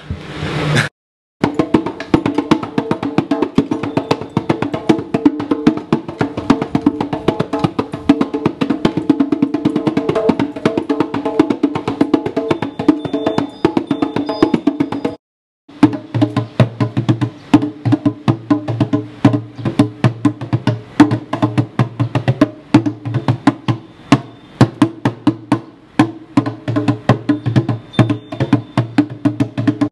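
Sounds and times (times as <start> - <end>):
djembe drumming: 1.4 - 29.9.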